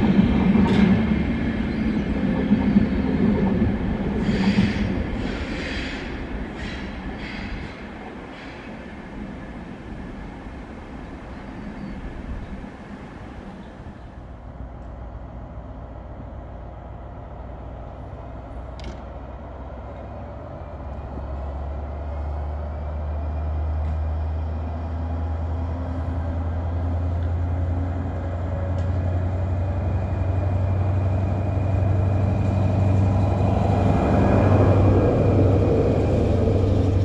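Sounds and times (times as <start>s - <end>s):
train approaching with low hum: 0.0s - 37.0s.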